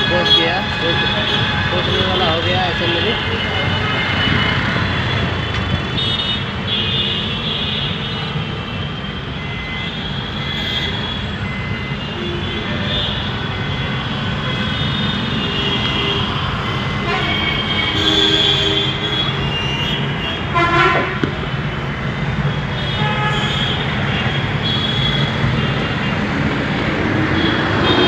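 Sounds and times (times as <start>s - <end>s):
vehicle engines rumbling: 0.0s - 28.0s.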